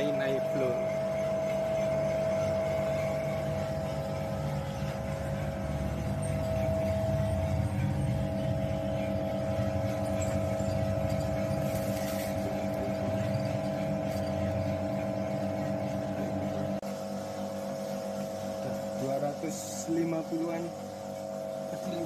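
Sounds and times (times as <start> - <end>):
constant whine: 0.0 - 22.0
motor and blower hum: 0.0 - 22.0.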